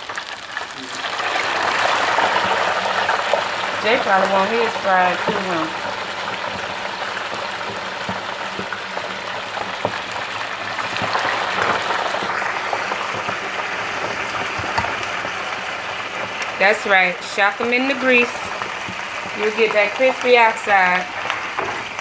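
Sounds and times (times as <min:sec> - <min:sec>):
deep-frying sizzle and pops: 0:00.0 - 0:22.0.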